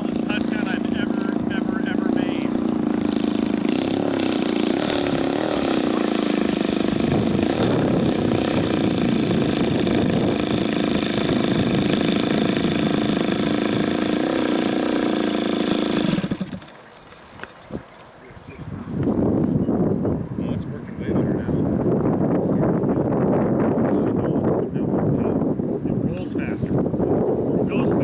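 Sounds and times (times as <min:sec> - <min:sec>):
model airplane engine and propeller: 0:00.0 - 0:21.5, 0:22.2 - 0:28.0.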